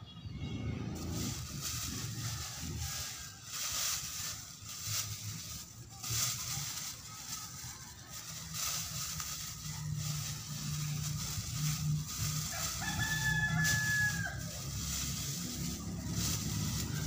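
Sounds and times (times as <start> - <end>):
plastic bag crinkling: 1.0 - 17.0.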